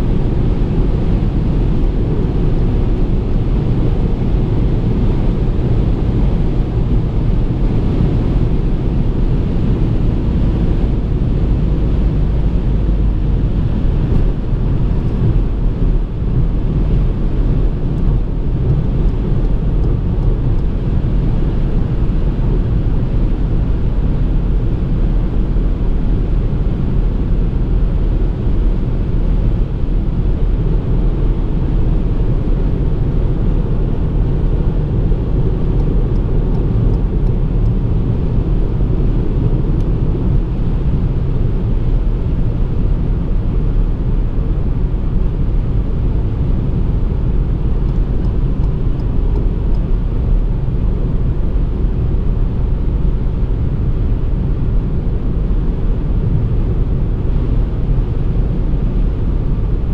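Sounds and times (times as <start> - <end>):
car engine pulling steadily: 0.0 - 59.9.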